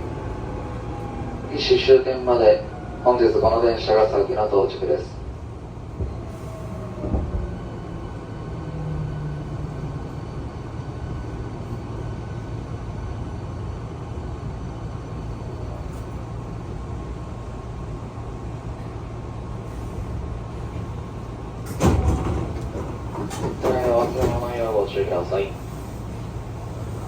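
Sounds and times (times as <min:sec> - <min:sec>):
electric train rumbling: 0:00.0 - 0:27.0.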